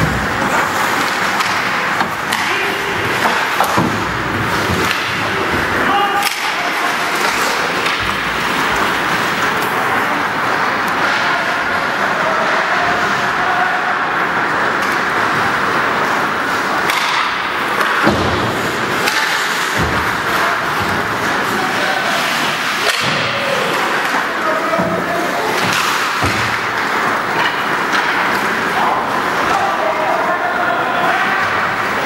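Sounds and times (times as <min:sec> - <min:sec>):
skates on ice: 0:00.0 - 0:31.9
crowd noise: 0:00.0 - 0:32.0.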